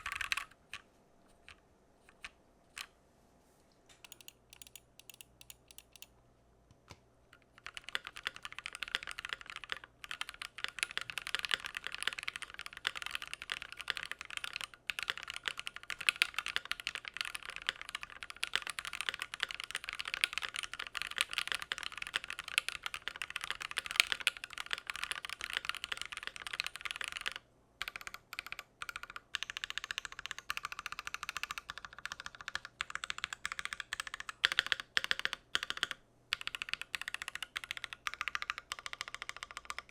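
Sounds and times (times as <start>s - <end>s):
typing on mechanical keyboard: 0.0s - 0.8s, 4.0s - 6.1s, 7.4s - 39.9s.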